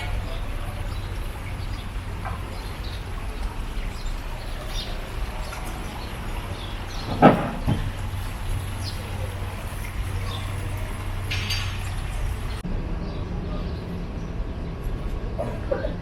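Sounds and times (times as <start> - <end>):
birds chirping: 0.0 - 16.0
steady low rumble: 0.0 - 16.0.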